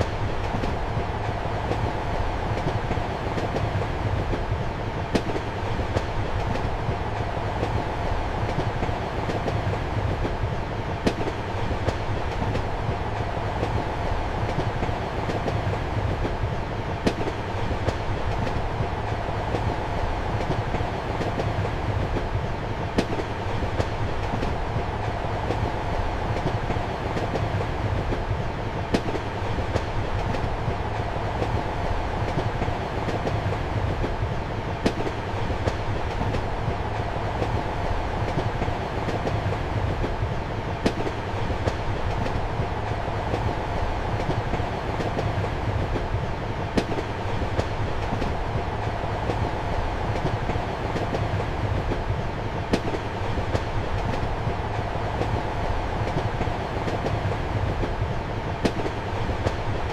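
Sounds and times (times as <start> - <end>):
train rumble and hum: 0.0 - 59.9.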